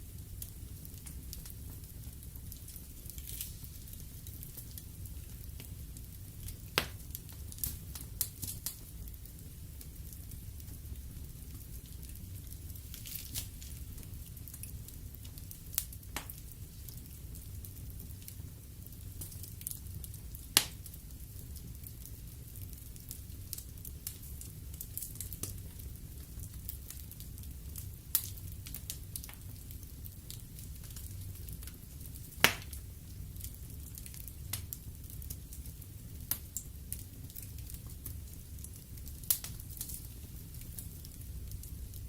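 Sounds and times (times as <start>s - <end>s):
burning logs crackling and popping: 0.0s - 42.0s
low rumble of flames: 0.0s - 42.0s.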